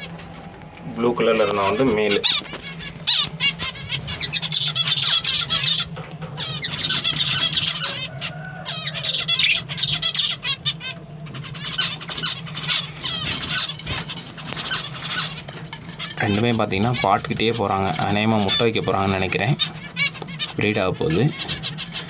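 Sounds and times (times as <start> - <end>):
cage birds chirping and twittering: 0.0 - 22.0
steady low hum: 0.0 - 22.0.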